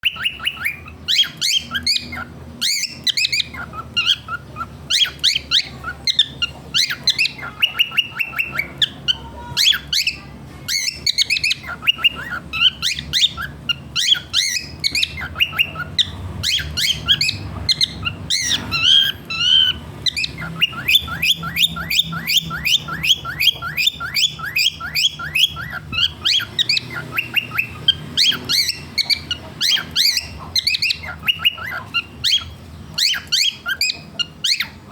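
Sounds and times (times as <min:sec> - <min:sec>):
cockatiel chirping and whistling: 0:00.0 - 0:34.9.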